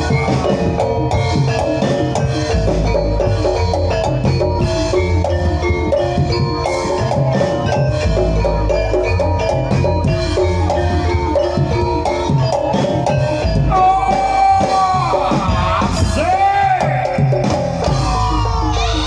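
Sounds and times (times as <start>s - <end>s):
steady drumming: 0.0s - 19.0s
tuned metal percussion: 0.0s - 19.0s.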